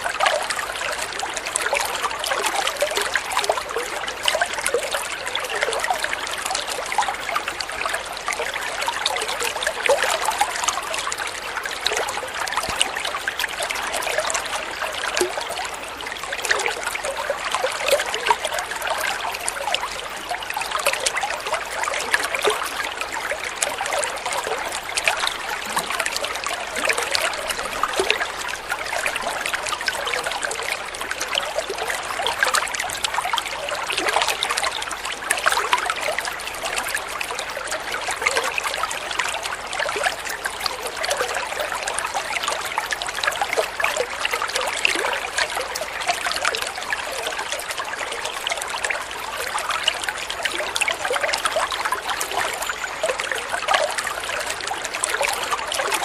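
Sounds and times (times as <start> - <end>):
water trickling and burbling: 0.0 - 56.0.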